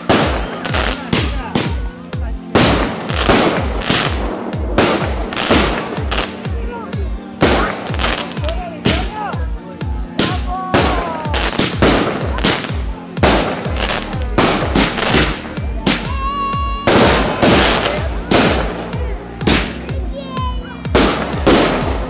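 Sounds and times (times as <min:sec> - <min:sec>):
fireworks bangs and crackles: 0:00.0 - 0:22.0
music with steady beat: 0:00.0 - 0:22.0.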